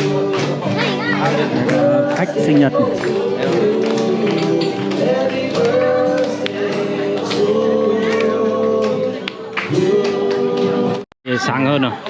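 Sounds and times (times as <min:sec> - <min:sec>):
musical accompaniment: 0:00.0 - 0:11.0.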